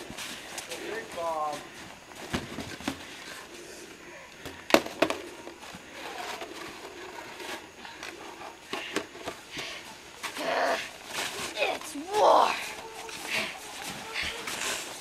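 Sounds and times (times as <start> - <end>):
faint rustling and shuffling: 0.0 - 15.0.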